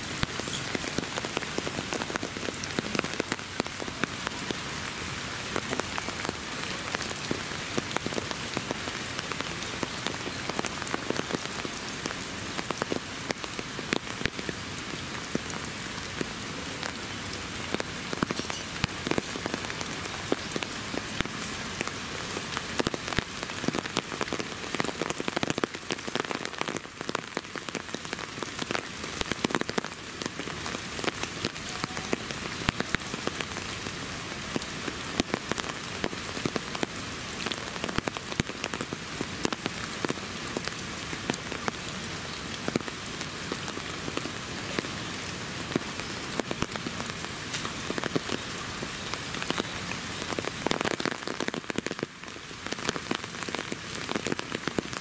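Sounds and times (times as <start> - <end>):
steady rain: 0.0 - 55.0
raindrops tapping on surfaces: 0.1 - 55.0.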